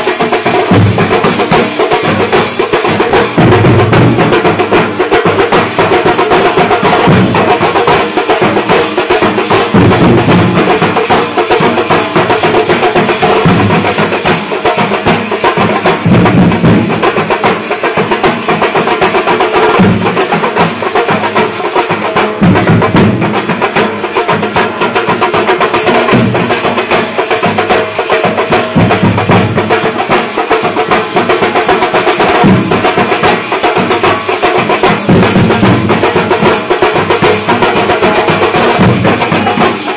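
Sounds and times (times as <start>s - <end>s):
marching drums: 0.0s - 39.9s.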